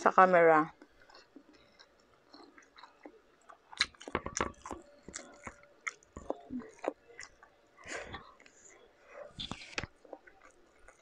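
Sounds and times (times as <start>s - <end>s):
chewing shrimp with crunches: 0.7s - 11.0s.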